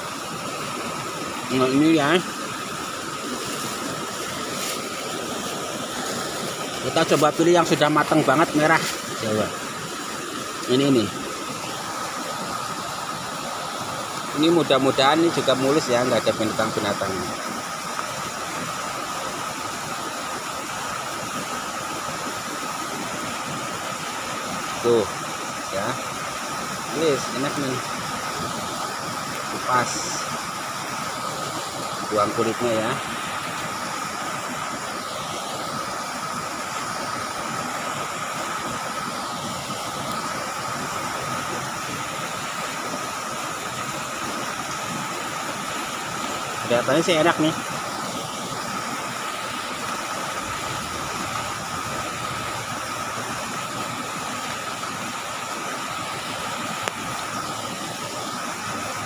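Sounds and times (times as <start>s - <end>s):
fast river water rushing: 0.0s - 59.0s.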